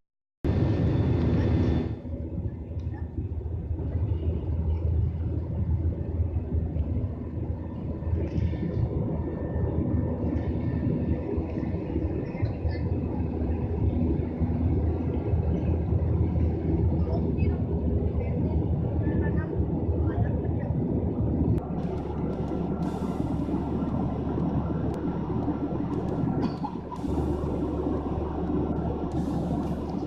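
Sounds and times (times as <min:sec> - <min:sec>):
airliner cabin drone: 0:00.4 - 0:30.0.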